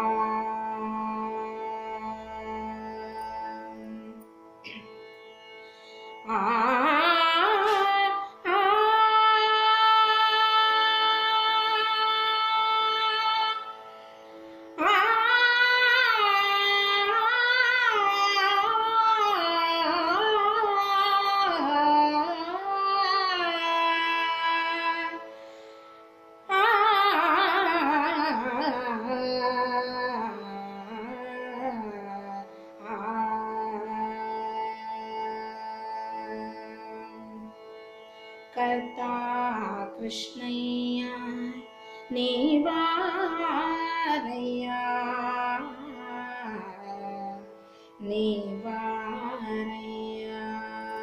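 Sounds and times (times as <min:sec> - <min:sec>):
woman singing devotional song: 0:00.0 - 0:04.2, 0:06.2 - 0:13.7, 0:14.8 - 0:25.2, 0:26.5 - 0:37.5, 0:38.5 - 0:51.0.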